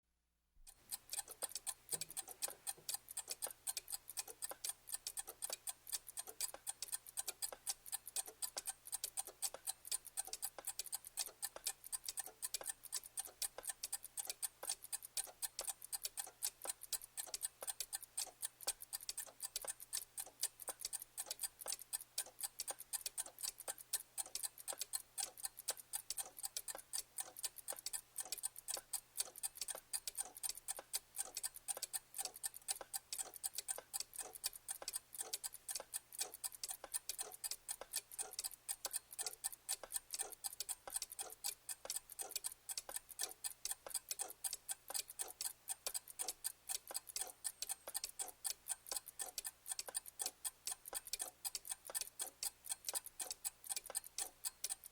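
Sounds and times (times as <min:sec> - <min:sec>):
clock ticking: 0:00.7 - 0:54.9.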